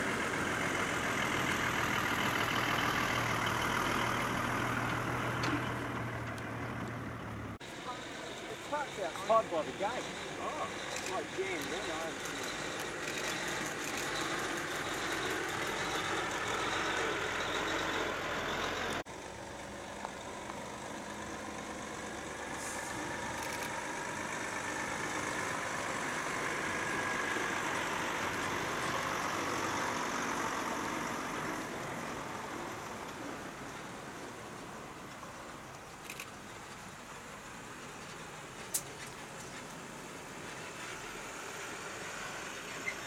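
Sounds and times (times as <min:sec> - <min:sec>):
diesel trucks driving past: 0:00.0 - 0:43.0.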